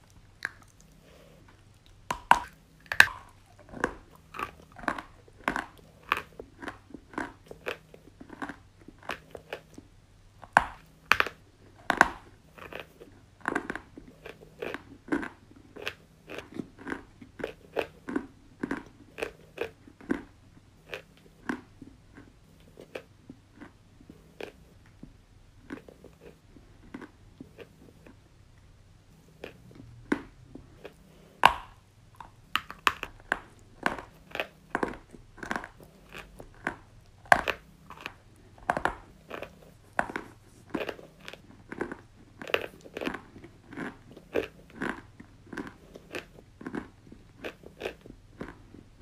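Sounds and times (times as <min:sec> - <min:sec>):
chalk being chewed: 0:00.0 - 0:28.2, 0:29.1 - 0:48.9.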